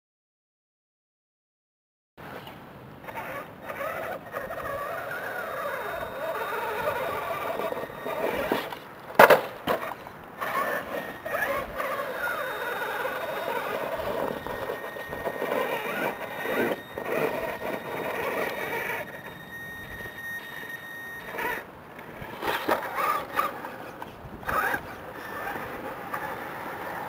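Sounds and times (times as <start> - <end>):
electric motor whining: 3.0 - 8.8, 9.8 - 27.0.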